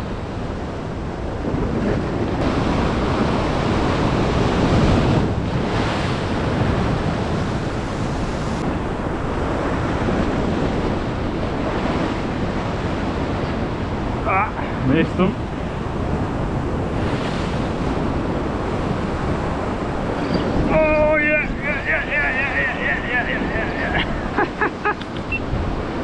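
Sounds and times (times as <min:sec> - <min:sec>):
sea waves breaking: 0:00.0 - 0:26.0
wind noise on microphone: 0:00.0 - 0:26.0.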